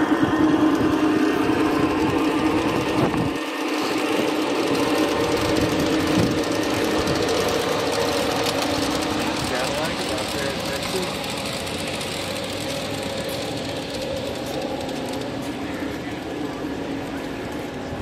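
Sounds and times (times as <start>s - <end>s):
model trains humming: 0.0s - 18.0s.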